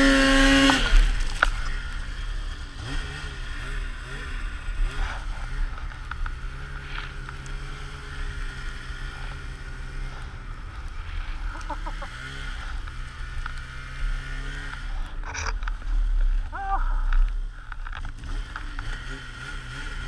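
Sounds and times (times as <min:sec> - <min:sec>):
snowmobile engine pulling hard: 0:00.0 - 0:20.0.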